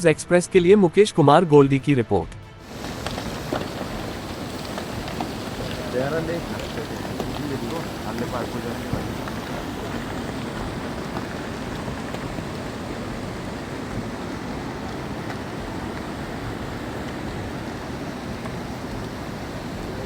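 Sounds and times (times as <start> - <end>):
rush of water: 2.6 - 20.0.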